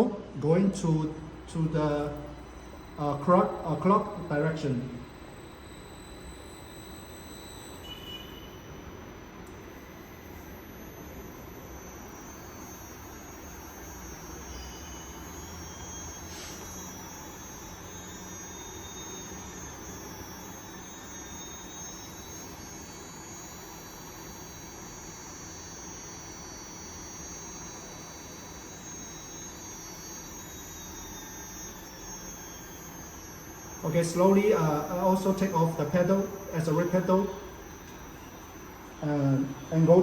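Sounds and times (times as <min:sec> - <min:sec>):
electric motor whining: 0:05.0 - 0:40.0.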